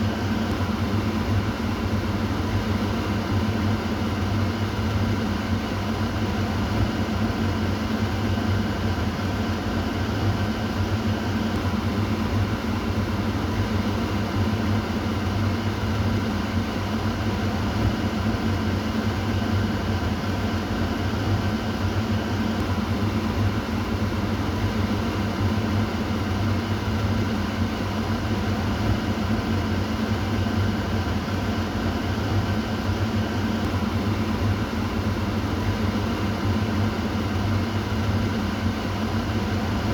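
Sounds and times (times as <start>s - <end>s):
exhaust fan humming: 0.0s - 39.9s.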